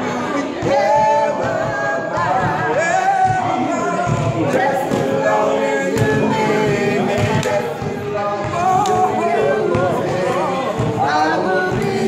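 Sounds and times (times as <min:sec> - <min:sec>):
men singing a cappella: 0:00.0 - 0:12.0.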